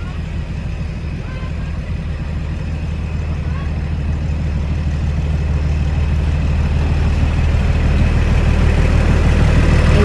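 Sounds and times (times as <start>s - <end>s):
diesel railcar engine droning: 0.0s - 10.0s.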